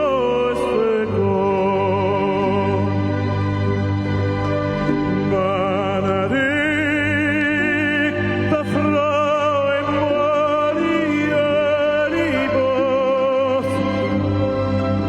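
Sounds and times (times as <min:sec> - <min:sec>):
operatic voice singing: 0:00.0 - 0:03.3, 0:05.0 - 0:14.5
orchestral accompaniment: 0:00.0 - 0:15.0.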